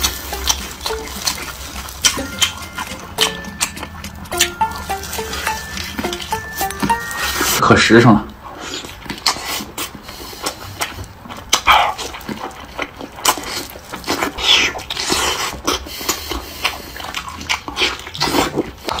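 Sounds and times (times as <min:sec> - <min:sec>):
wet chewing: 0:00.0 - 0:05.6, 0:08.7 - 0:19.0.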